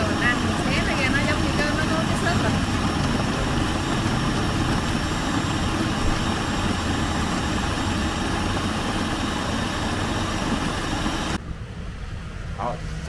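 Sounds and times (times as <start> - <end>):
food processor grinding: 0.0 - 11.4.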